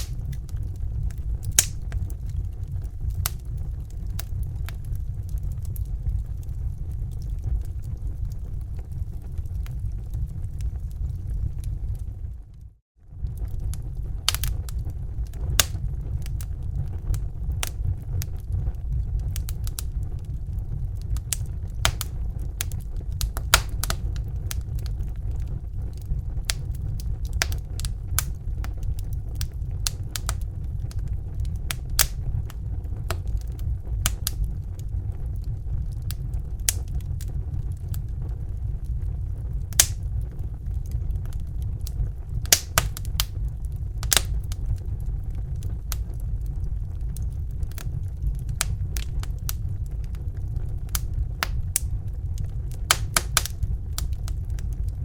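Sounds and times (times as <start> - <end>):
fire crackling and popping: 0.0 - 55.0
low fire roar: 0.0 - 55.0.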